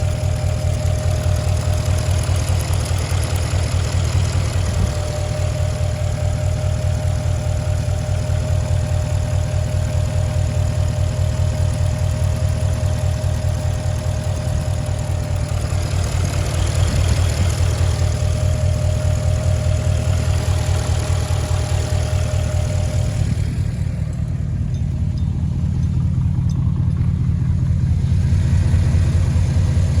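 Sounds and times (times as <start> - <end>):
car engine idling: 0.0 - 30.0
steady whine: 0.0 - 30.0.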